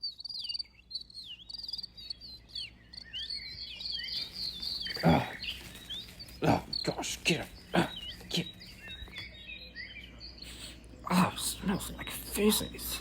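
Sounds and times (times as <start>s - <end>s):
bird whistling song: 0.0s - 13.0s.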